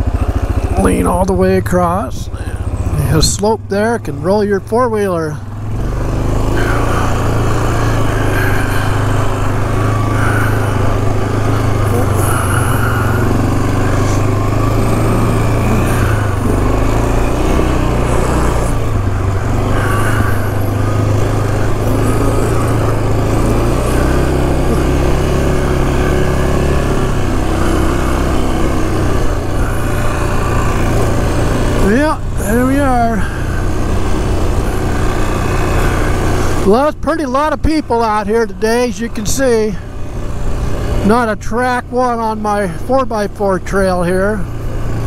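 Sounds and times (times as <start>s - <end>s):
quad engine rumble: 0.0s - 45.0s.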